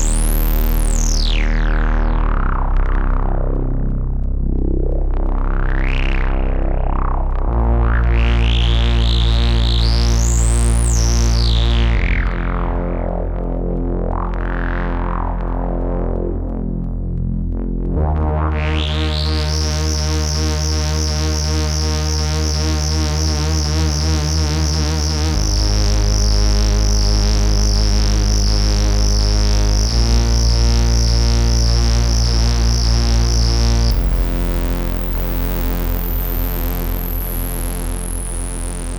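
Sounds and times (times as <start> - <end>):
buzzy synthesizer drone: 0.0 - 38.9.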